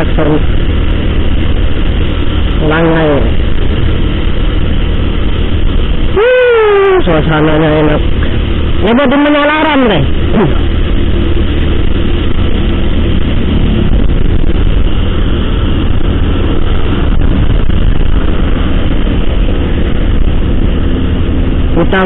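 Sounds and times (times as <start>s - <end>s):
motorcycle engine running: 0.0s - 22.0s
wind noise on microphone: 0.0s - 22.0s.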